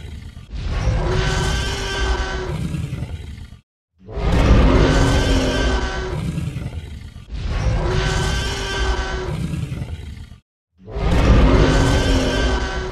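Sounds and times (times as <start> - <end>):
dinosaur roar: 0.0 - 12.9.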